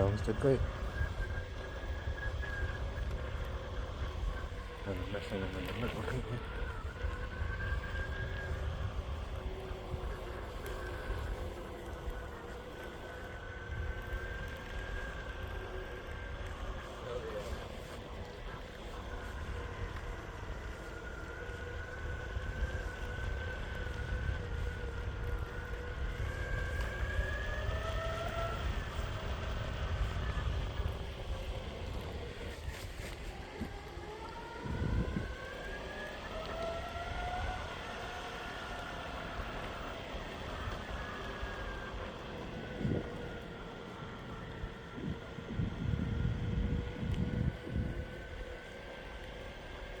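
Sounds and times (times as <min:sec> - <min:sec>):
electric motor whine: 0:00.0 - 0:50.0
wheels rumbling on pavement: 0:00.0 - 0:50.0.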